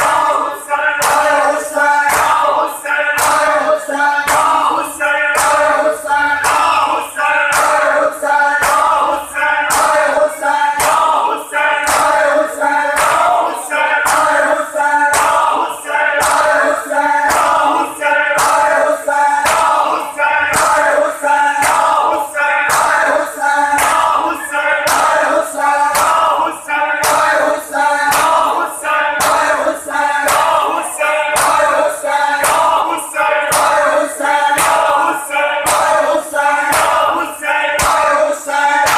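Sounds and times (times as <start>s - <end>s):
men chanting in unison: 0.0s - 38.9s
hand slaps on bare chests: 1.0s - 4.8s, 5.4s - 6.8s, 7.5s - 11.3s, 11.9s - 15.6s, 16.2s - 26.4s, 27.0s - 28.6s, 29.2s - 32.9s, 33.5s - 38.2s.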